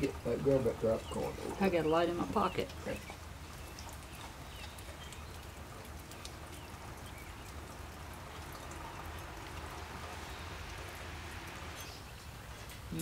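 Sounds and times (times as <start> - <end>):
raindrops ticking: 0.0 - 13.0
steady rain: 0.0 - 13.0.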